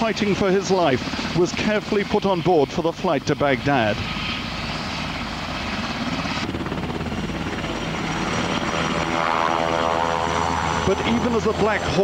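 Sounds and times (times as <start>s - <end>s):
helicopter rotor chop: 0.0s - 12.0s
turbine whine: 0.0s - 12.0s.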